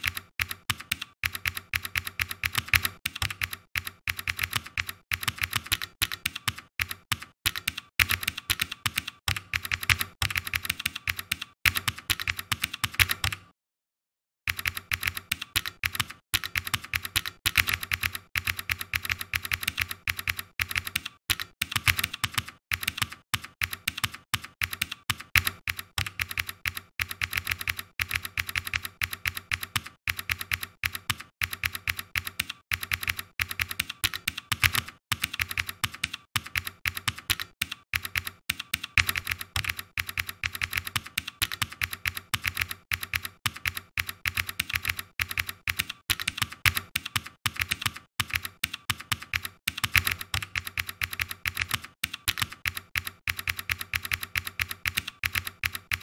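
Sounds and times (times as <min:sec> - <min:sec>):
fast keyboard typing: 0:00.0 - 0:13.5, 0:14.5 - 0:56.0.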